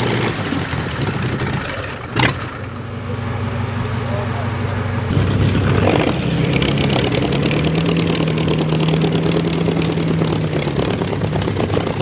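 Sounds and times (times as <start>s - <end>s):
vintage race car engine: 0.0s - 12.0s.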